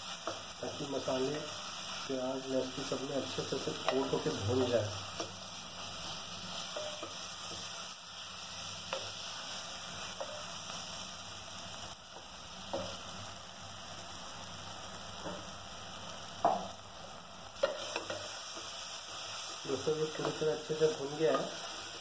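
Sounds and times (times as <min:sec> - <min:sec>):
masala sizzling in a pot: 0:00.0 - 0:22.0.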